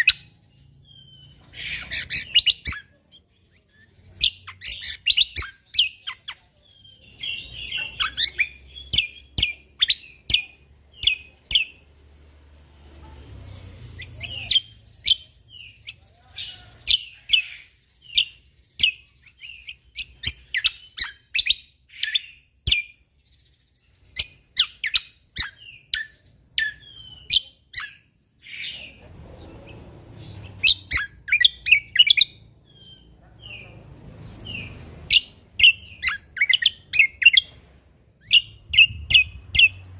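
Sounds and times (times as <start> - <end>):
bird chirping rapidly: 0.0 - 12.3, 13.4 - 39.9
faint low hum: 0.0 - 39.9.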